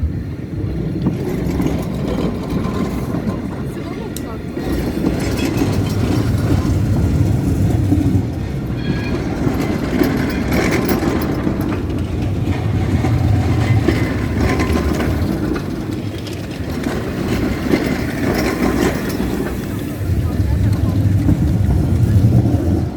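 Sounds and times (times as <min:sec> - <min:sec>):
tram rumbling on rails: 0:00.0 - 0:22.9.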